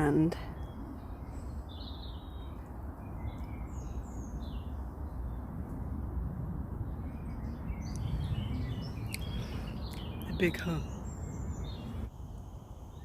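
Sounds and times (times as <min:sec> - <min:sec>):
small birds chirping: 0:00.0 - 0:06.0, 0:06.8 - 0:12.1
steady low rumble: 0:00.0 - 0:13.0.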